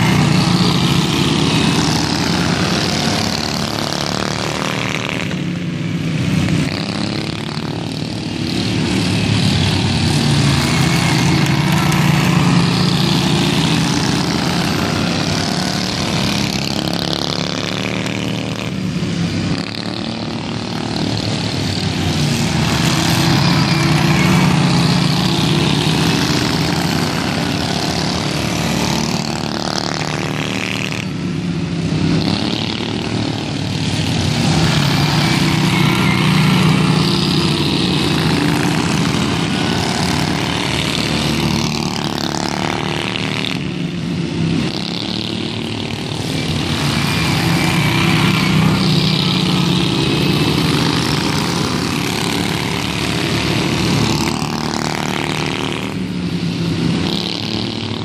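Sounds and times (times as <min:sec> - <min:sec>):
lawn tractor engines racing: 0:00.0 - 0:58.0.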